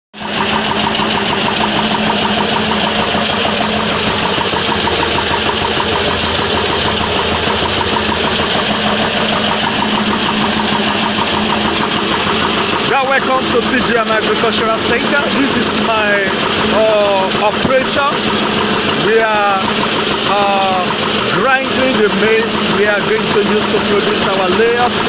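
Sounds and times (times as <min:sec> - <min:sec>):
grinding machine roaring: 0:00.2 - 0:25.0.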